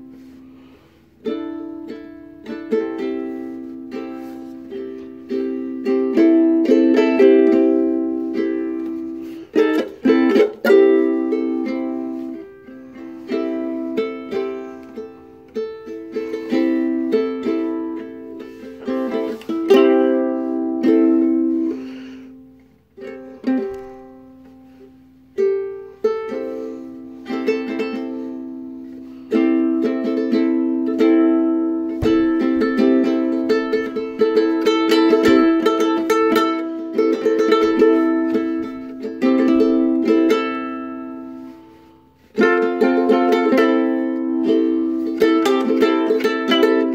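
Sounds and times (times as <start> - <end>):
ukulele playing: 0.0 - 46.9.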